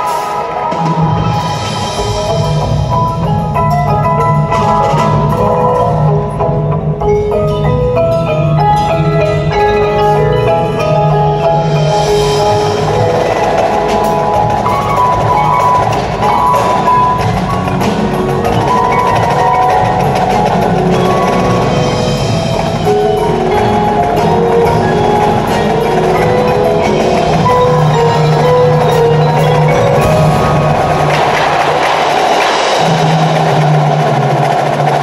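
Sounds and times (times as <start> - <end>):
drum strokes: 0.0 - 35.0
marimba melody: 0.0 - 35.0.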